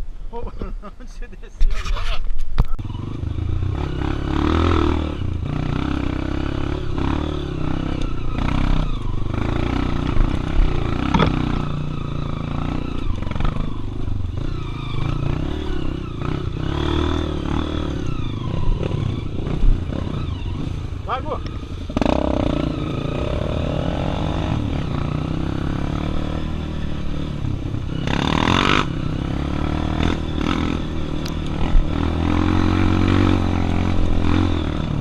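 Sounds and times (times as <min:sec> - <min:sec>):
motorcycle engine revving: 0:01.8 - 0:35.0.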